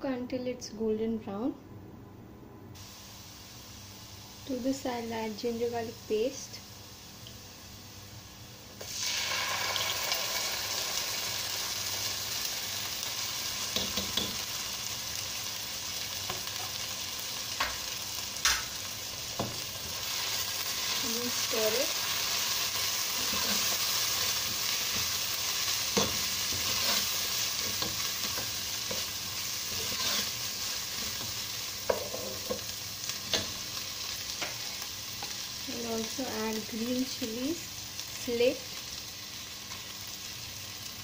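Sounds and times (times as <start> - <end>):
onions sizzling in hot oil: 2.8 - 41.0.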